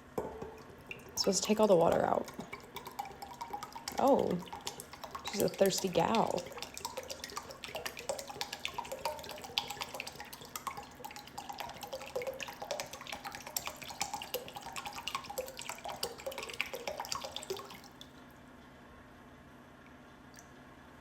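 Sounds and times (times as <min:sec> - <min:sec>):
water dripping and trickling: 0:00.0 - 0:18.2.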